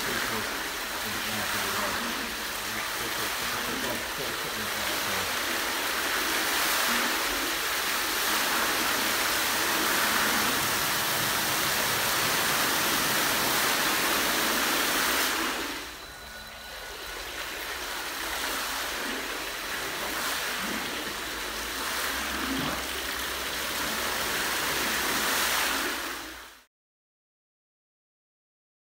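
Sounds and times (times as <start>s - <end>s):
fountain jets splashing water: 0.0s - 26.6s.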